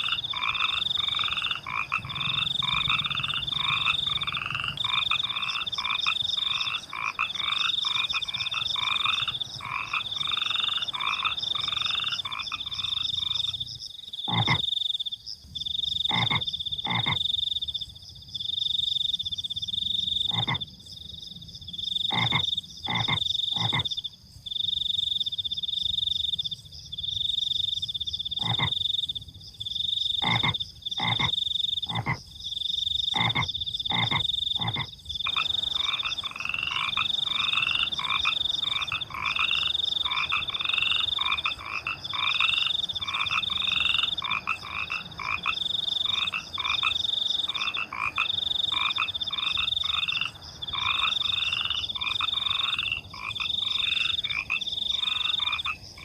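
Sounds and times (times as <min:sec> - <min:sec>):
cricket chirping: 0:00.0 - 0:56.0
frogs croaking: 0:00.0 - 0:56.0.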